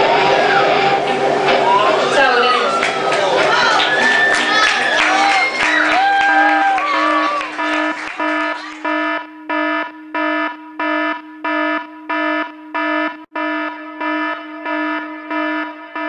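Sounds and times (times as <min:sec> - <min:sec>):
bright electronic beeping: 0:00.0 - 0:16.0
steady pitched electronic drone: 0:00.0 - 0:16.0.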